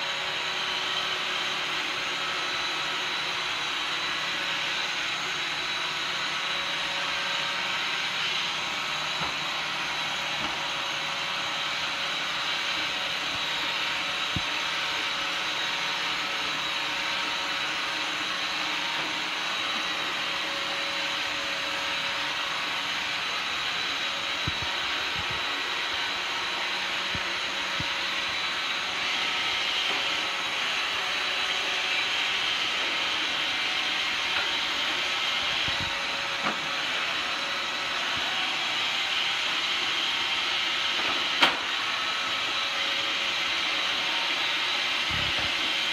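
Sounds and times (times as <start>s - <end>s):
robot vacuum motor whir: 0.0s - 45.9s.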